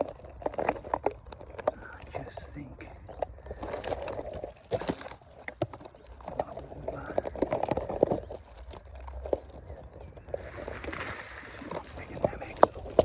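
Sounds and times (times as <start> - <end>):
undergrowth rustling and crackling: 0.0 - 13.0.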